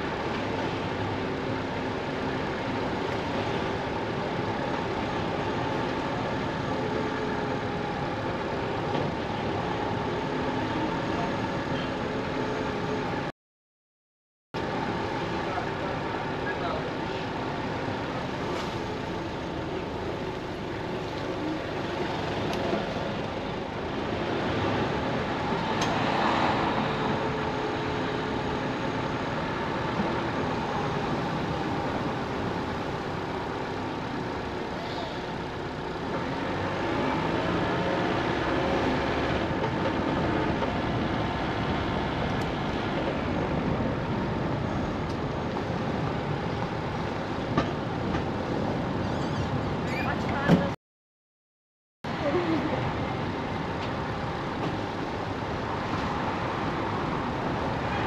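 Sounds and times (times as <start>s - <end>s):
vehicle traffic noise: 0.0s - 13.3s, 14.6s - 50.8s, 52.1s - 58.0s.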